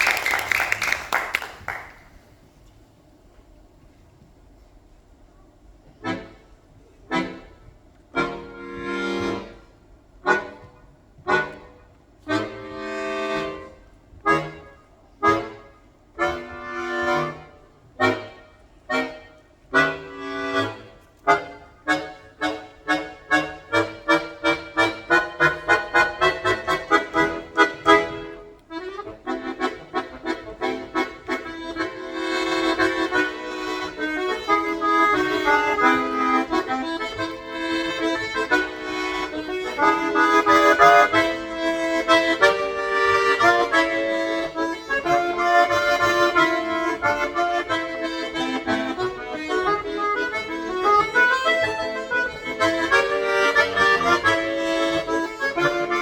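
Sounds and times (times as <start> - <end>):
solo accordion playing: 6.0 - 56.0.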